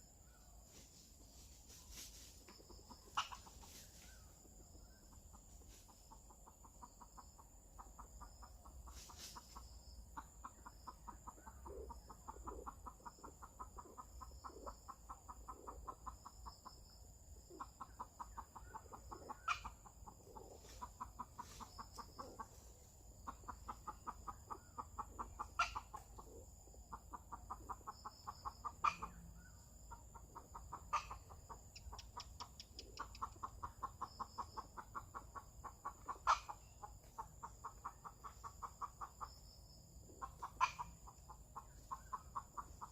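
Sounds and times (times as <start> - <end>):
junglefowl clucking: 0.7 - 42.9.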